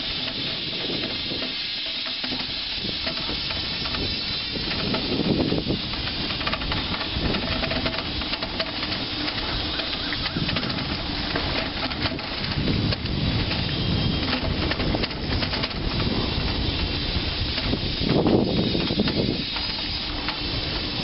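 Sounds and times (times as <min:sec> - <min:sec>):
bicycle rolling on rough concrete: 0:00.0 - 0:21.0
bike rattling knocks: 0:00.0 - 0:21.0.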